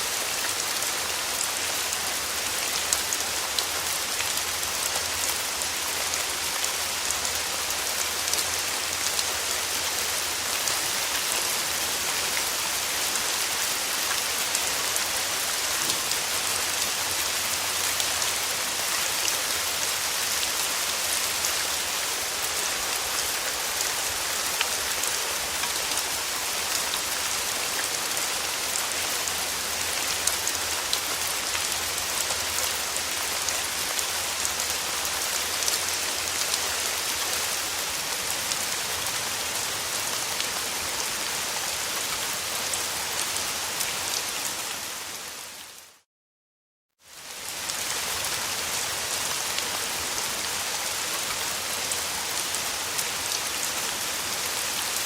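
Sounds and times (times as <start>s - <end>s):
steady rain falling: 0.0s - 46.0s, 47.0s - 55.0s.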